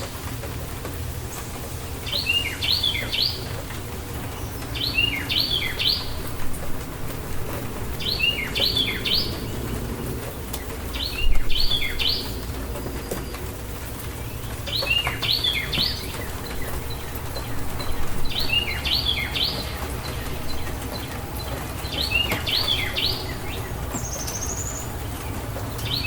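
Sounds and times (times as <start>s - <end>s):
rain rushing: 0.0s - 26.0s
songbird singing: 0.0s - 26.0s.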